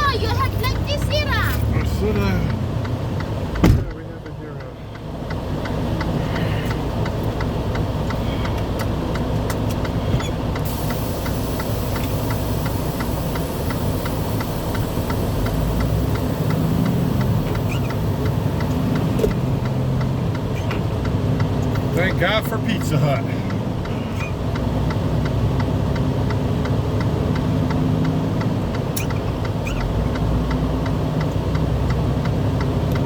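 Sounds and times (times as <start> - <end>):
car engine and tyres inside cabin: 0.0 - 33.0
light regular ticking: 0.1 - 33.0.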